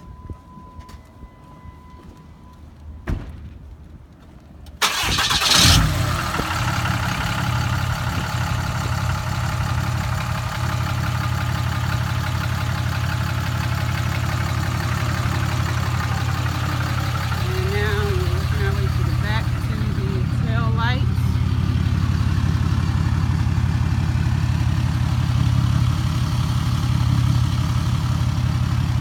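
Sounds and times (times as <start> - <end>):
pickup engine starting and idling: 4.8 - 29.0.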